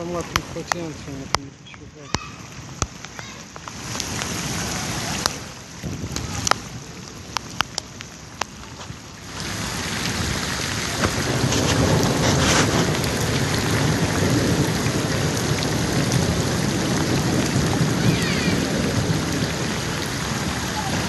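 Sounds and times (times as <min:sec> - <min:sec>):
heavy rain pouring: 0:00.0 - 0:21.0
raindrops tapping: 0:00.0 - 0:21.0.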